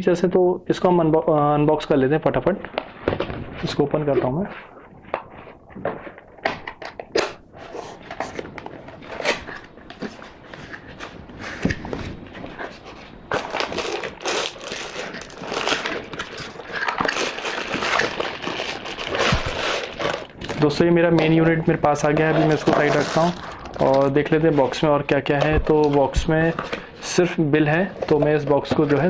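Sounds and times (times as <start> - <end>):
cardboard packaging rustling: 2.6 - 29.0.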